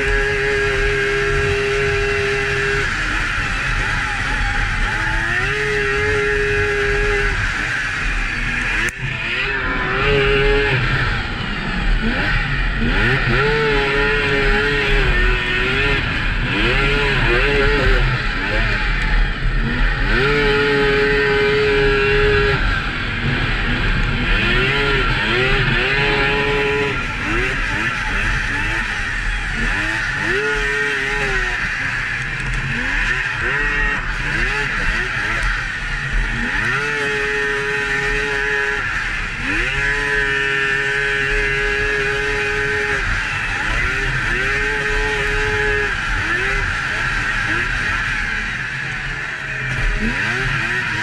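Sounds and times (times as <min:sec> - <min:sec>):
snowmobile engine revving: 0:00.0 - 0:51.0.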